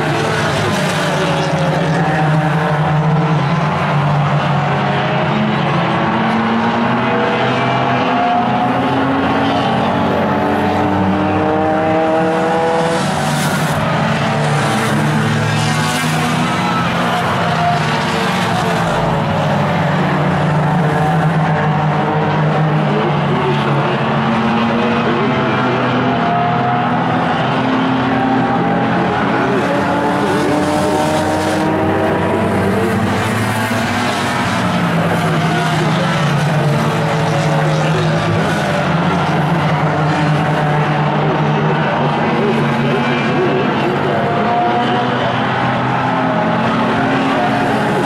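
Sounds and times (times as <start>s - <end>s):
race car engines passing: 0.0s - 48.0s.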